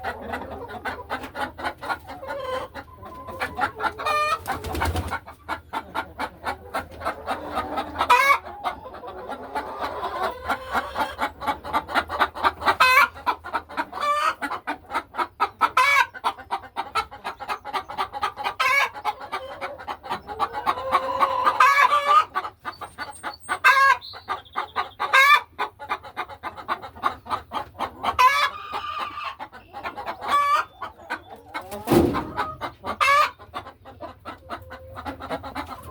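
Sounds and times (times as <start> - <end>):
hens clucking: 0.0 - 35.9
loud sharp hen squawk: 0.0 - 35.9.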